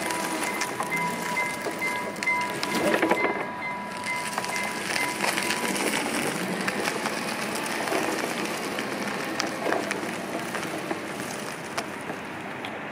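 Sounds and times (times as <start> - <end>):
tyre crunching over asphalt: 0.0 - 12.9.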